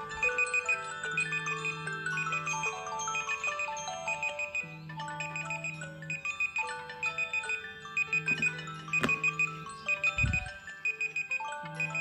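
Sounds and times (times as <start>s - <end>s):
melodic ringtone notes: 0.0s - 12.0s.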